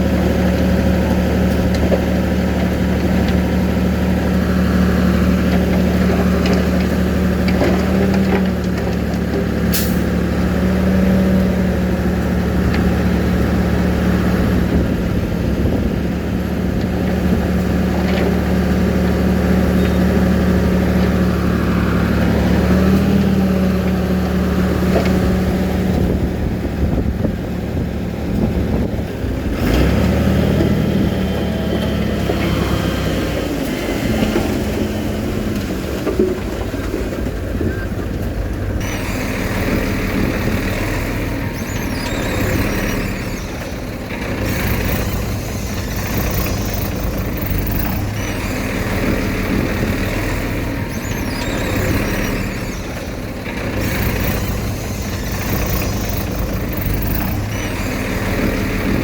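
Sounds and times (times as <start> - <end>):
diesel machinery engine running: 0.0 - 59.0.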